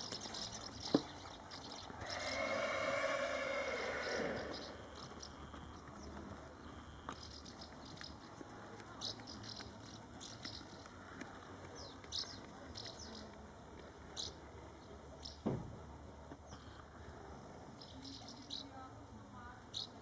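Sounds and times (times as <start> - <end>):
outdoor ambience: 0.0 - 20.0.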